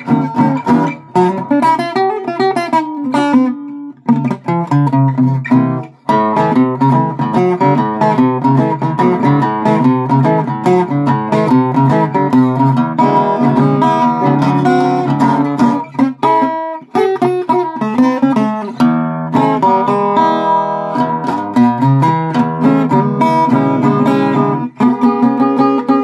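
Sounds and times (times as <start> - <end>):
acoustic guitar fingerstyle: 0.0 - 26.0.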